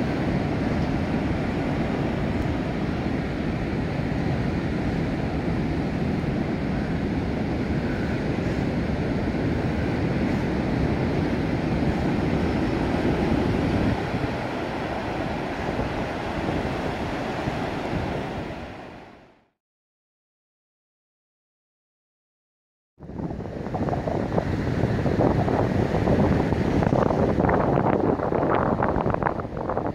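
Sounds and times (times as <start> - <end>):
wind noise on microphone: 0.0 - 19.4, 23.0 - 29.9
ocean surf breaking: 0.0 - 19.5, 23.0 - 29.9.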